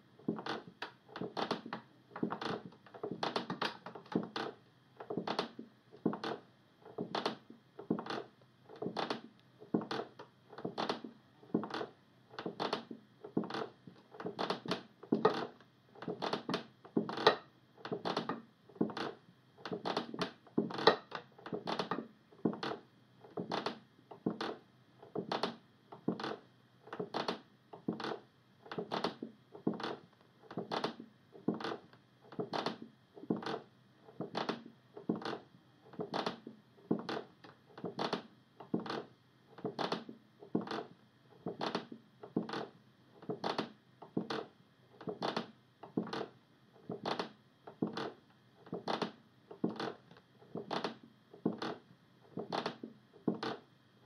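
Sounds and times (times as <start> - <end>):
rocking chair knocking on wooden floor: 0.3 - 8.2, 8.8 - 19.1, 19.7 - 26.4, 27.0 - 33.6, 34.2 - 35.4, 36.0 - 39.0, 39.6 - 40.9, 41.5 - 44.4, 45.0 - 46.3, 46.9 - 48.1, 48.7 - 50.0, 50.6 - 51.8, 52.4 - 53.6.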